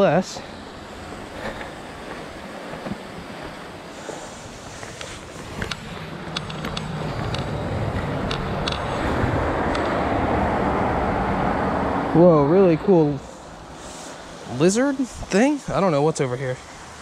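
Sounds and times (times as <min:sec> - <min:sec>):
wind on microphone: 0:01.0 - 0:15.4.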